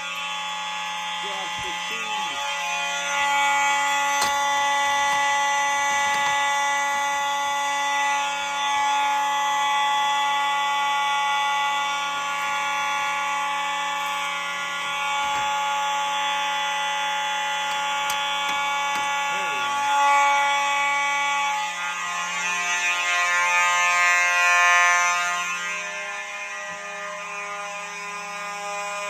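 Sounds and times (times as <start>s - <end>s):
fire alarm horns blaring: 0.0s - 29.0s.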